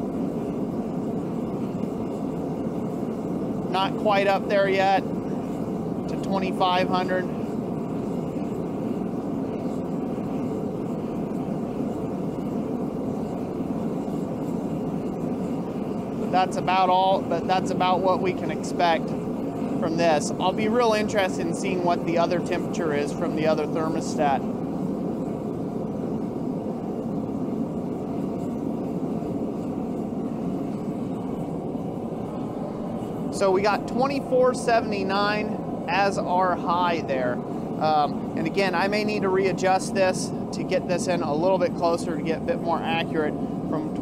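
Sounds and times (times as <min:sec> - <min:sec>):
gas forge burner roaring: 0:00.0 - 0:44.0.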